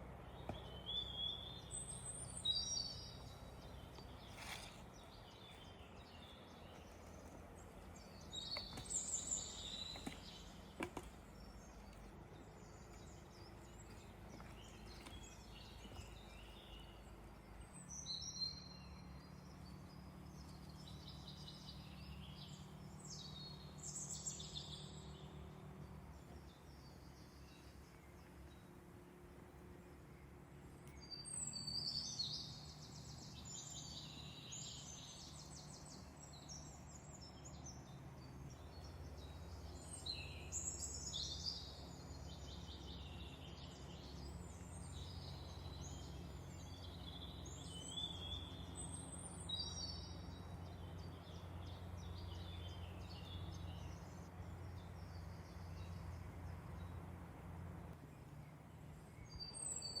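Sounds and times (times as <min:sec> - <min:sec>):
steady low hum: 0:00.0 - 0:59.8
songbird singing: 0:00.0 - 1:00.0.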